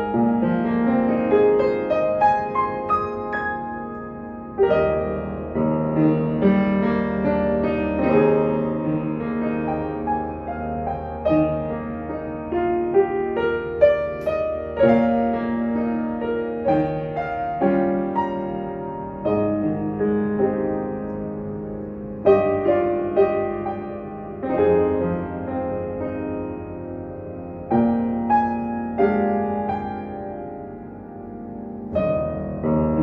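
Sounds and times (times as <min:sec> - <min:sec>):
piano chords and melody: 0:00.0 - 0:33.0.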